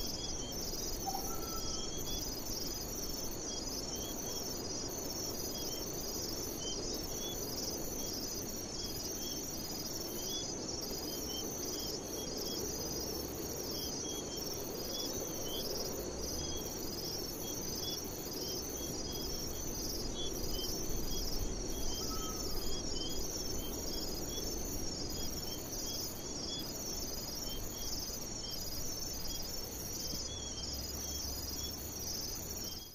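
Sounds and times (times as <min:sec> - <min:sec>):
insects chirping: 0:00.0 - 0:32.9
low background noise: 0:00.0 - 0:32.9.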